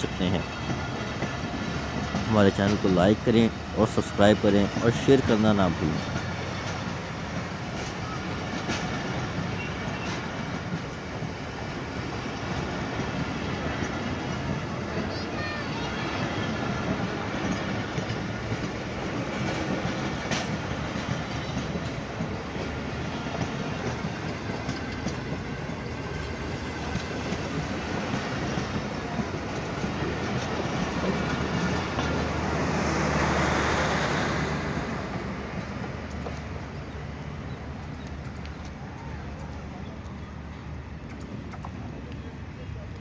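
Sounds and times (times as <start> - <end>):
train rumbling past: 0.0 - 43.0
wheels clacking over rail joints: 0.0 - 43.0.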